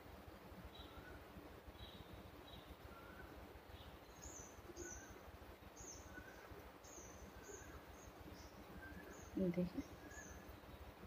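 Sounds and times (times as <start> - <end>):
small bird chirping: 0.7 - 11.0.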